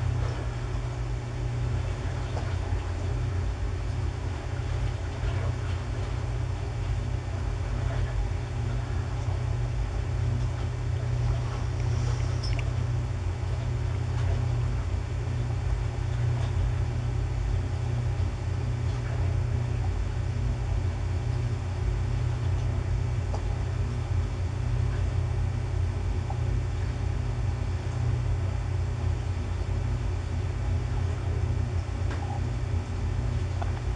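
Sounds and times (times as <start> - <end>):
faint hum: 0.0 - 33.9.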